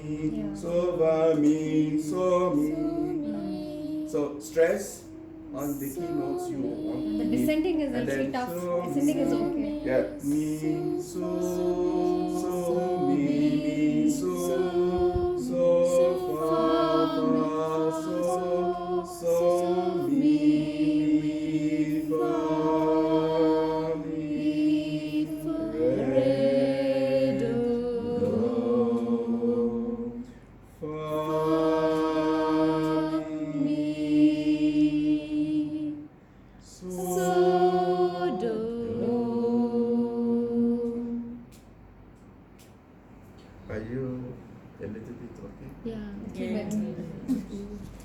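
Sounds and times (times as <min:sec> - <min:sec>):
choir singing unaccompanied: 0:00.0 - 0:41.9.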